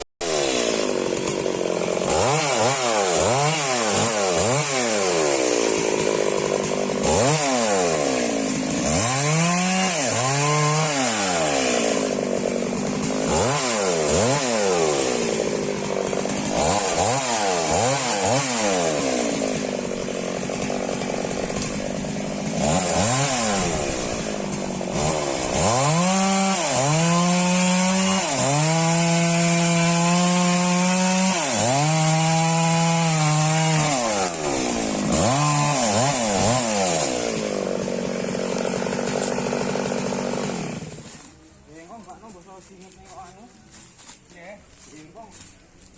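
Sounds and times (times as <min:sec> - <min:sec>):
chainsaw revving: 0:00.0 - 0:45.4.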